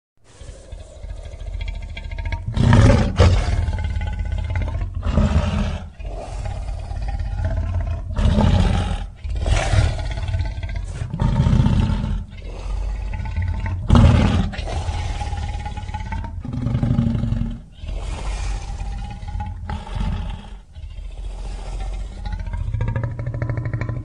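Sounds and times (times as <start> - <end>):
deep dinosaur roars and growls: 0.2 - 24.0.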